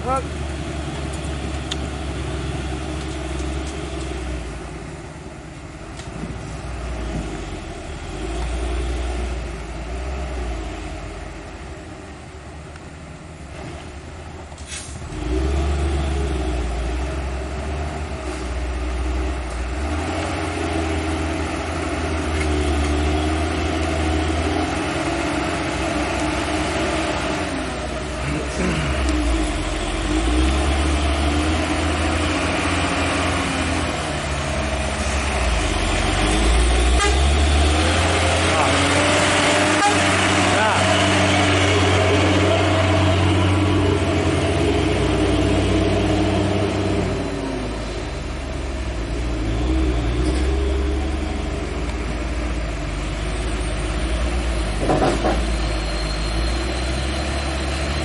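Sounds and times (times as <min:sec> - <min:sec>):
truck diesel engine labouring: 0:00.0 - 0:58.0.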